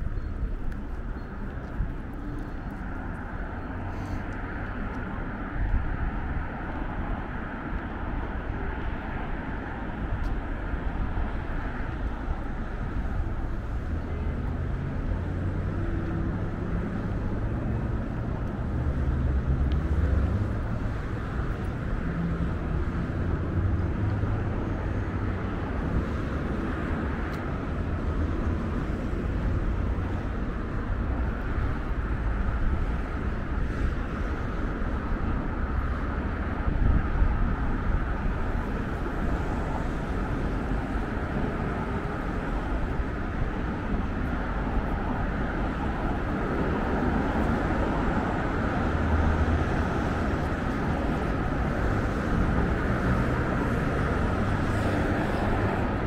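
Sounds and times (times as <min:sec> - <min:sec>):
low rumble of road traffic: 0:00.0 - 0:56.0.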